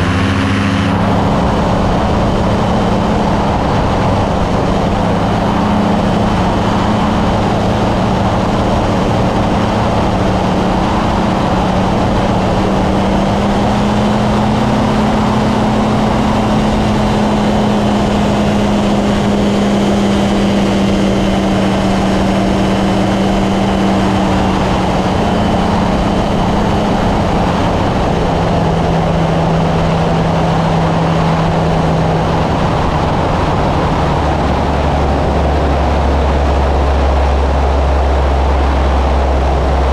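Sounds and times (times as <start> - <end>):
light aircraft engine and propeller: 0.0 - 39.9
wind noise: 0.0 - 39.9.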